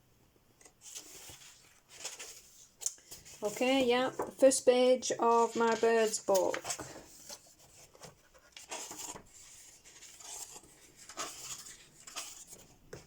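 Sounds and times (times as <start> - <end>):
paper pages rustling: 0.6 - 13.0.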